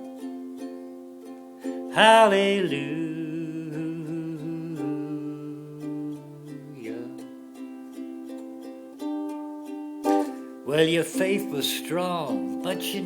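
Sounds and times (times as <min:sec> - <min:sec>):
ukulele strumming: 0:00.0 - 0:13.0
person singing: 0:01.6 - 0:13.0.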